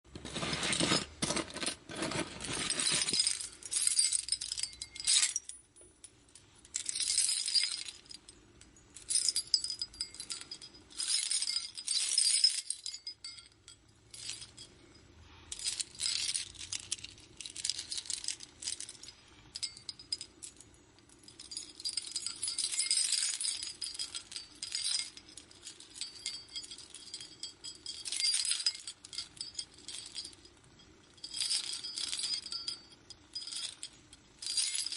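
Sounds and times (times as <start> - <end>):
jewelry clinking and jingling: 0.1 - 34.9.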